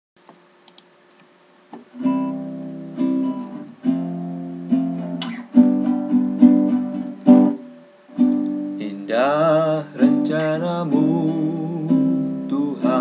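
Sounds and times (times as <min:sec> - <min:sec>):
acoustic guitar strumming: 0:02.0 - 0:13.0.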